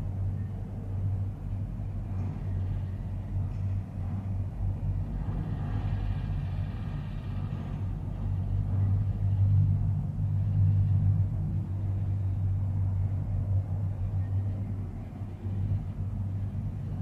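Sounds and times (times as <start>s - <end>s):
cable car cabin rumbling: 0.0s - 17.0s.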